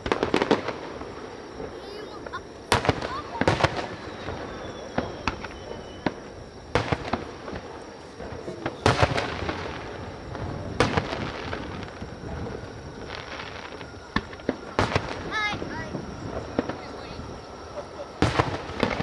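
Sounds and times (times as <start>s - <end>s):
fireworks bursting with sharp bangs: 0.0s - 19.0s.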